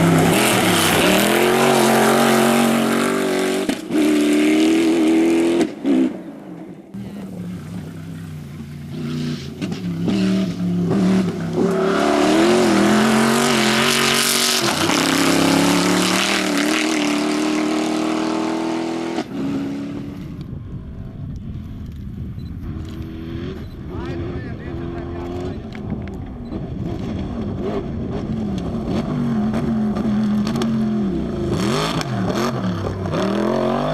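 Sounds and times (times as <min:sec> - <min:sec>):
rally car engine revving: 0:00.0 - 0:20.4, 0:22.6 - 0:33.9.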